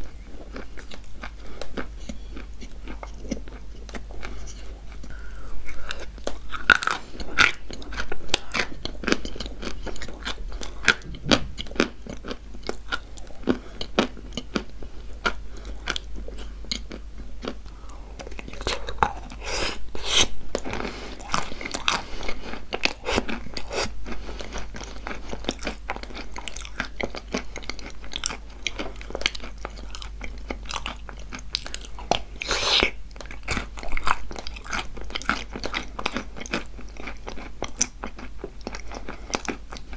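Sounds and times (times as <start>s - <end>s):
chalk crunching when chewed: 0.1s - 39.9s.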